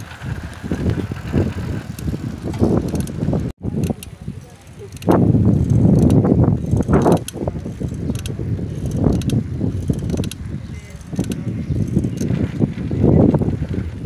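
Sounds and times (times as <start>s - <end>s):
fast bicycle clicking: 0.0s - 14.0s
wind buffeting microphone: 0.0s - 14.0s.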